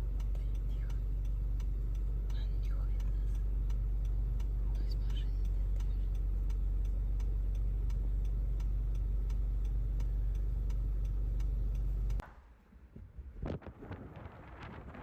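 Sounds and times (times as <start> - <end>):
turn signal ticking: 0.0 - 12.4
car rumble inside cabin: 0.0 - 15.0.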